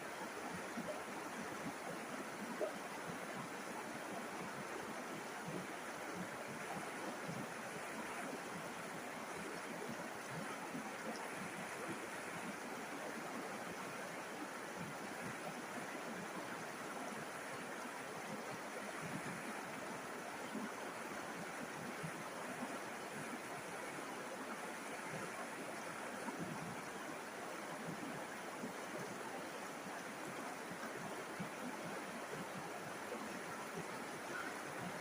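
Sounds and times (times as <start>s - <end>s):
river water flowing over stones: 0.0s - 35.0s.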